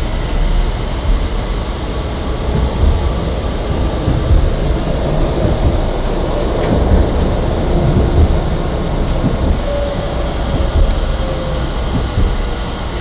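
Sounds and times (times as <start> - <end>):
tram wheels rumbling: 0.0 - 13.0.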